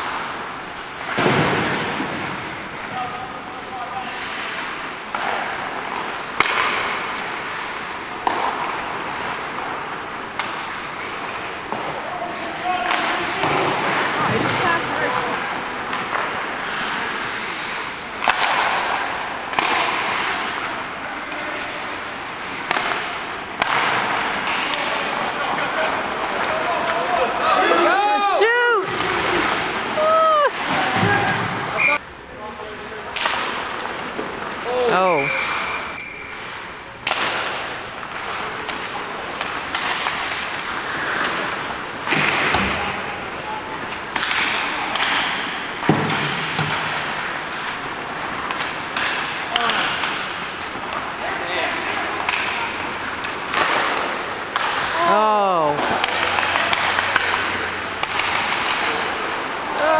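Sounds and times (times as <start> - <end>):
ice rink hiss: 0.0 - 28.3, 33.7 - 59.9
hockey sticks striking puck: 0.0 - 59.9.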